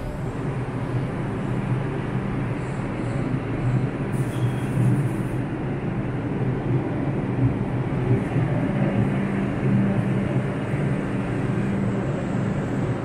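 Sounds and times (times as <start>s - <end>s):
subway train low drone: 0.0s - 13.0s.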